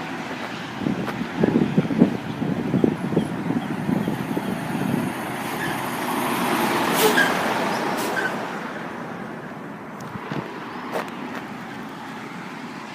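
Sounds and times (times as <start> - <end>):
truck driving past: 0.0 - 12.9.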